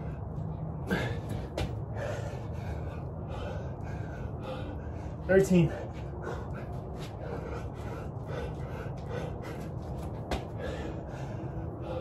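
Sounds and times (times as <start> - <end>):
man breathing heavily: 0.0 - 12.0
steady low hum: 0.0 - 12.0.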